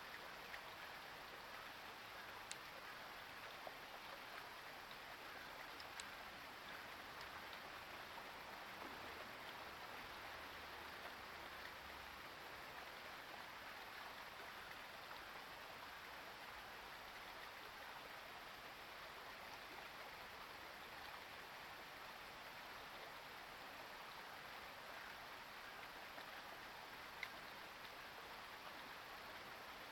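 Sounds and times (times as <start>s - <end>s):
faint background hiss: 0.0s - 29.9s.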